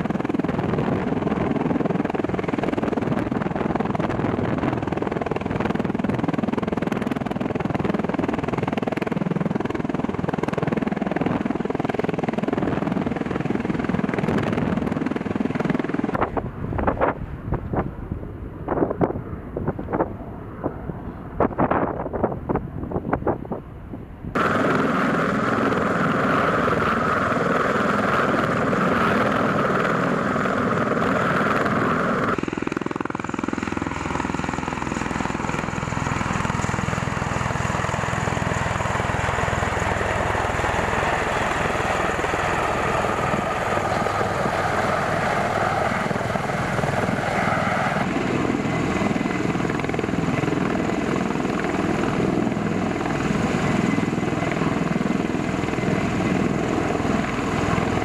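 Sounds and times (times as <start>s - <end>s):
tiltrotor aircraft engines running: 0.0s - 58.0s.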